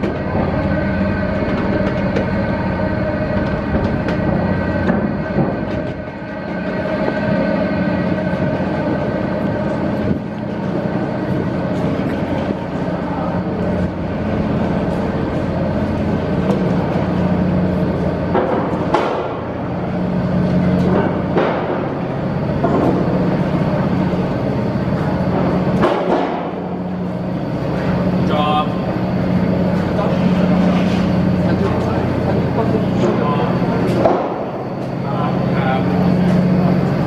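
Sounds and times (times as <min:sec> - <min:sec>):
ship machinery drone: 0:00.0 - 0:37.0.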